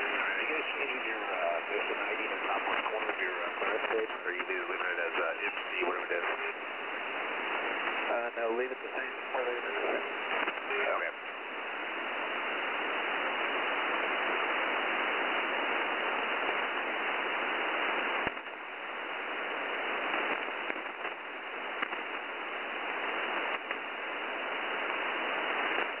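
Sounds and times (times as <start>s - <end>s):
shortwave radio hiss: 0.0s - 26.0s.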